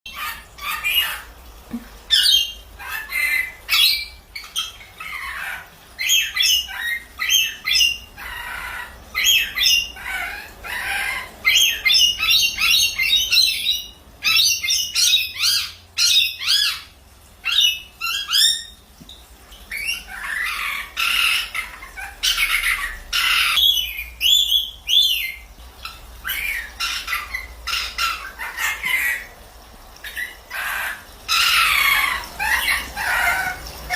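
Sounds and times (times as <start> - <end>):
parrot chirping and squawking: 0.1 - 33.9.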